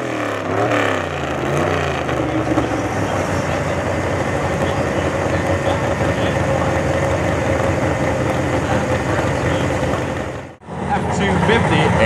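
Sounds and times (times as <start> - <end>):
thin steady whine: 0.0 - 12.0
truck engine idling: 0.0 - 12.0.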